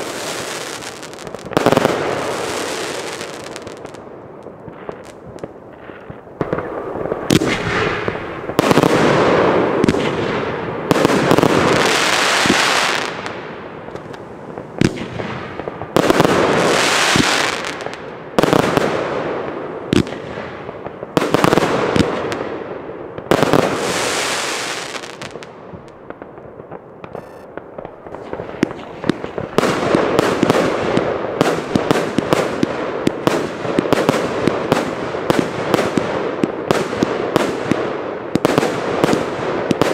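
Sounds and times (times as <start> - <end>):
crackle of burning firework stars: 0.0 - 39.9.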